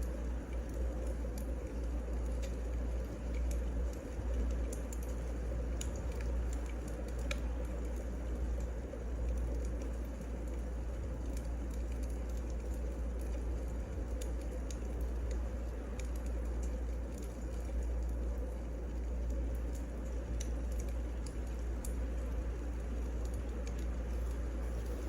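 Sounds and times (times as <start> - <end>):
sharp pops and snaps: 0.0 - 24.6
firewood burning and crackling: 0.0 - 25.0.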